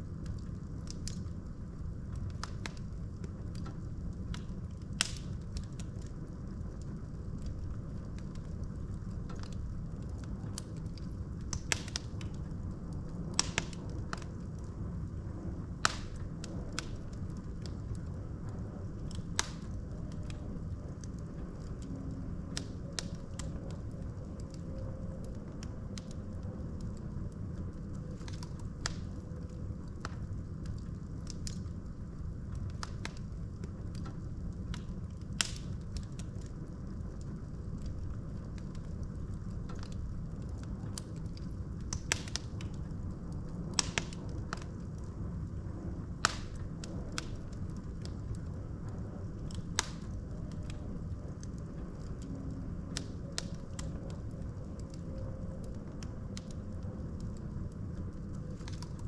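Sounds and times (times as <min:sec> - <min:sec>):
fire crackling and popping: 0:00.0 - 0:59.0
fire rumbling: 0:00.0 - 0:59.0.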